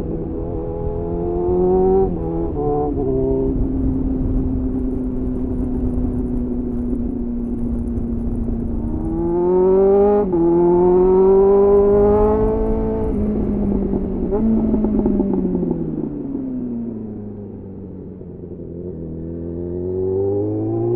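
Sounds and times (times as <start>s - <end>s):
motorcycle engine revving: 0.0s - 16.9s, 18.3s - 20.9s.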